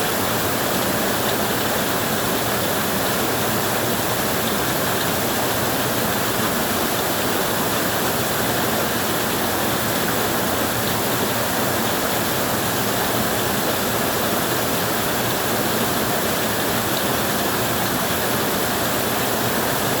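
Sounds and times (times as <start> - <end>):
heavy rain on a tin roof: 0.0 - 20.0.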